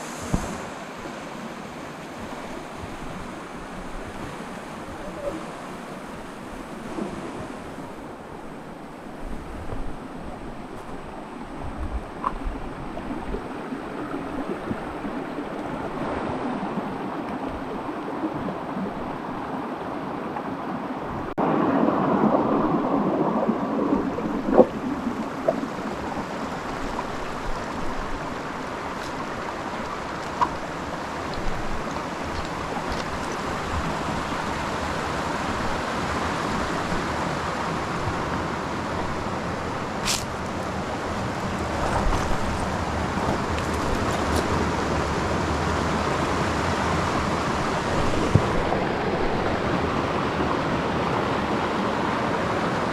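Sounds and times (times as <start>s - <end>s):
stream and waterfall rushing: 0.0s - 52.9s.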